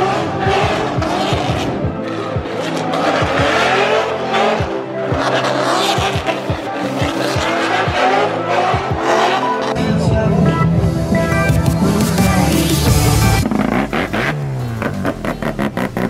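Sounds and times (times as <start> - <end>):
background music: 0.0 - 16.0
car engine revving: 0.0 - 16.0.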